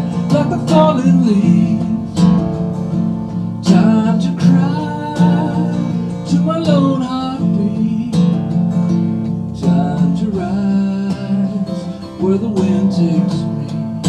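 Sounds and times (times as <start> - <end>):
man singing: 0.0 - 2.8, 3.4 - 14.0
acoustic guitar strummed: 0.0 - 14.0.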